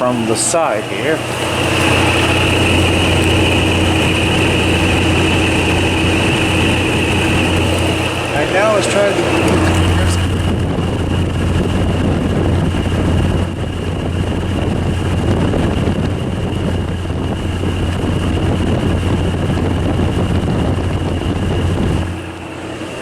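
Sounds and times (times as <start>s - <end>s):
air conditioner hum: 0.0s - 23.0s.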